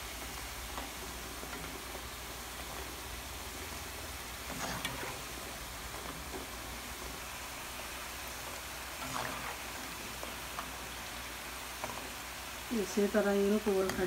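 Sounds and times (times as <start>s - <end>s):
deep-frying sizzle in oil: 0.0s - 14.0s.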